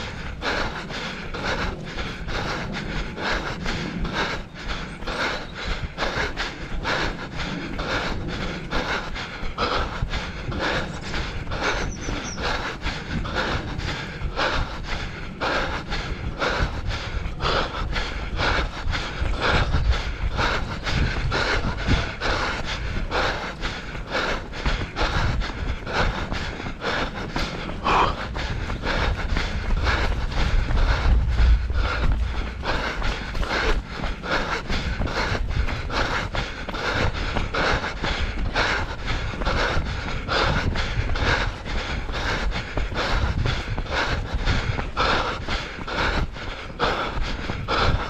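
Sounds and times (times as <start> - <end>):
person panting while running: 0.0 - 48.0
steady low rumble: 0.0 - 48.0.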